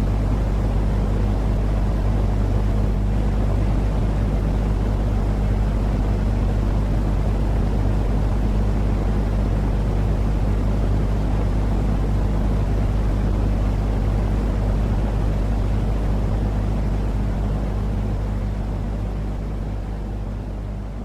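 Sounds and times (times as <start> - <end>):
continuous low droning noise: 0.0 - 21.0.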